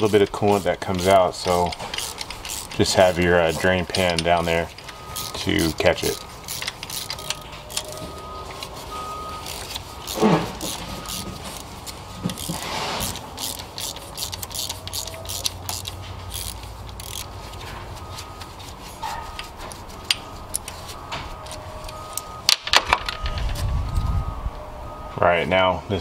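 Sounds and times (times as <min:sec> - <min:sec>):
hand ratchet clicking: 0:00.0 - 0:23.2.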